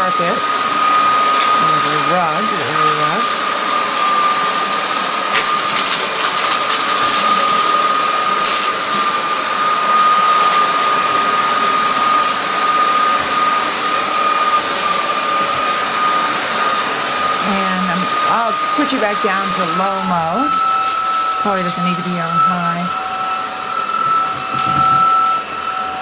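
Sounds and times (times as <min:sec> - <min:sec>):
vacuum cleaner motor whine: 0:00.0 - 0:26.0.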